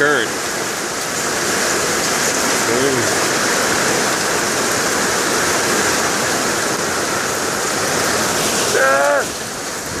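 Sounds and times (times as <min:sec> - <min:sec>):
heavy rain pouring: 0:00.0 - 0:10.0
storm runoff rushing: 0:00.0 - 0:10.0.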